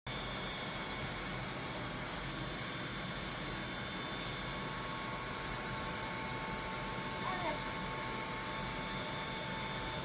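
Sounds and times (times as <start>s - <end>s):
vacuum cleaner running: 0.1s - 10.0s.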